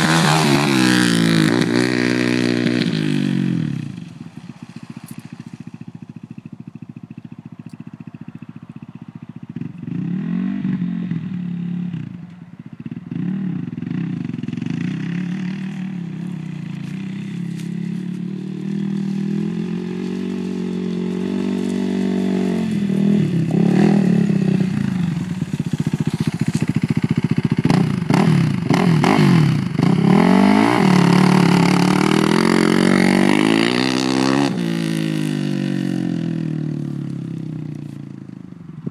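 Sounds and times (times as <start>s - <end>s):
quad engine idling and revving: 0.0s - 38.9s.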